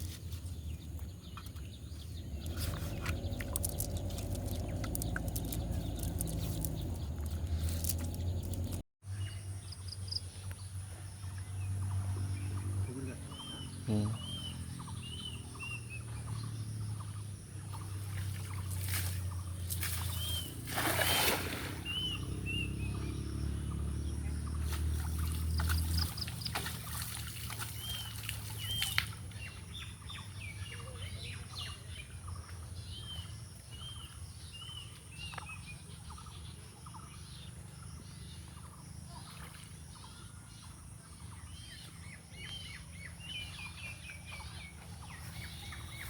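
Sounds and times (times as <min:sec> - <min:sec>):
bird chirping: 0:00.0 - 0:20.7, 0:21.8 - 0:46.0
outdoor ambience: 0:00.0 - 0:46.0.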